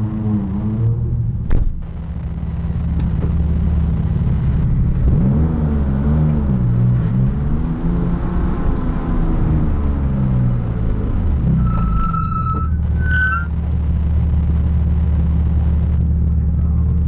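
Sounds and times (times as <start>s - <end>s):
car engine idling: 1.1s - 17.0s.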